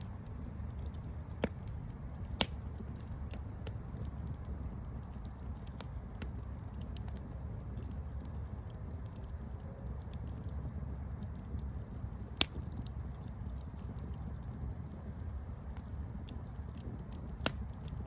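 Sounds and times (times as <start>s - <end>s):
campfire low rumble: 0.0s - 18.0s
fire crackles and pops: 0.0s - 18.0s.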